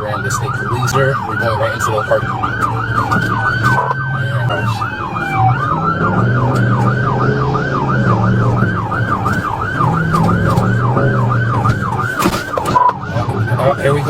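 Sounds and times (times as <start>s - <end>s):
police siren yelping: 0.0s - 14.0s.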